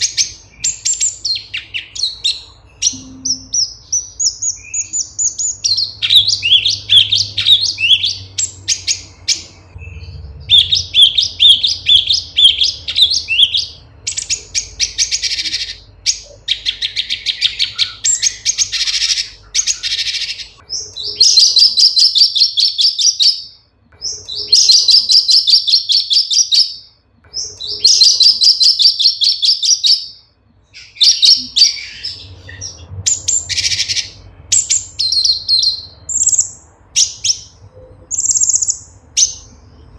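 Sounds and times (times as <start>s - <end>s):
bird singing and trilling: 0.0s - 39.9s.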